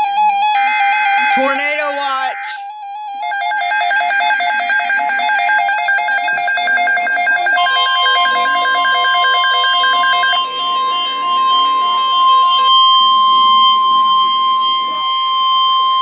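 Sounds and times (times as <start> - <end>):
steady alarm tone: 0.0 - 16.0
pulsing two-pitch alert warble: 0.7 - 5.2, 7.3 - 16.0.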